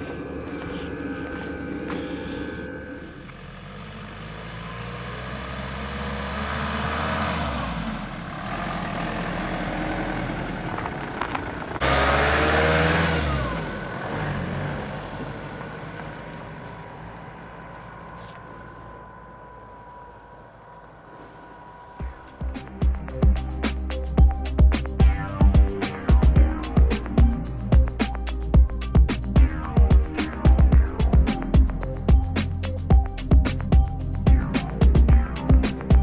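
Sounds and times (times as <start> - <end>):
louder engine sound: 0.0 - 36.0
vehicle engine running: 0.0 - 36.0.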